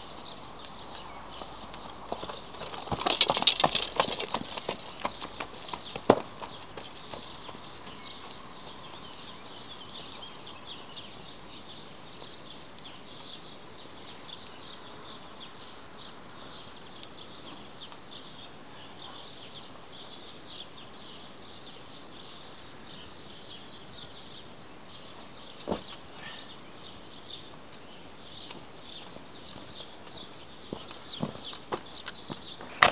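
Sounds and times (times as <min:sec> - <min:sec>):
small birds chirping: 0:00.0 - 0:32.9
steady outdoor hiss: 0:00.0 - 0:32.9.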